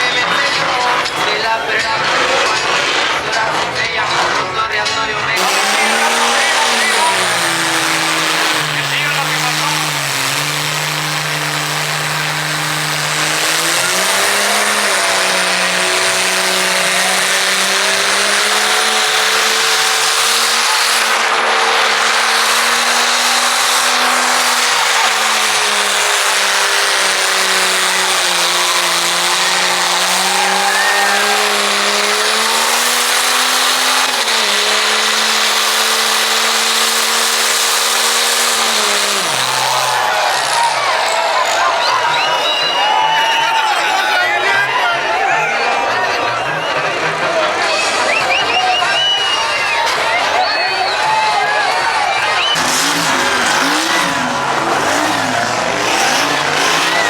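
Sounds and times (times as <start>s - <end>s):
engine at high revs: 0.0s - 57.0s.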